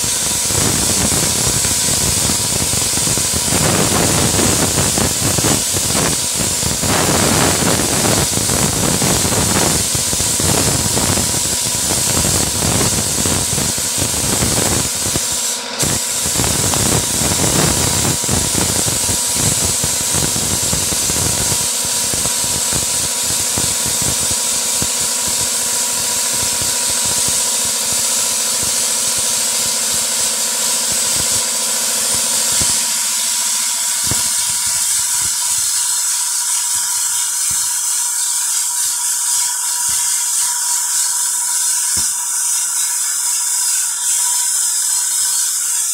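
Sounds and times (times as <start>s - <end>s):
sandblasting gun hissing: 0.0s - 45.9s.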